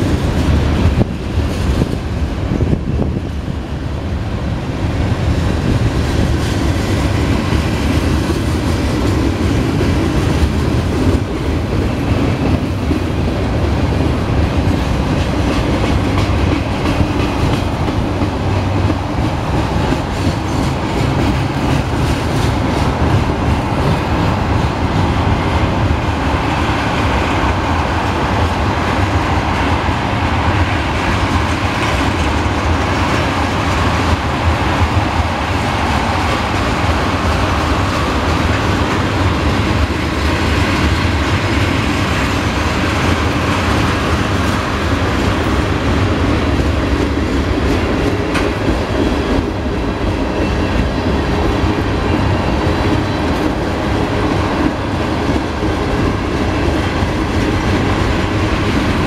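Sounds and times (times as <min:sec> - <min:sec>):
steel wheels rolling on rails: 0:00.0 - 0:59.0.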